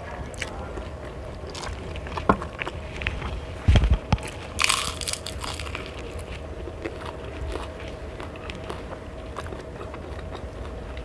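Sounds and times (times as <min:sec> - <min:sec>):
food crunching and chewing: 0:00.2 - 0:11.0.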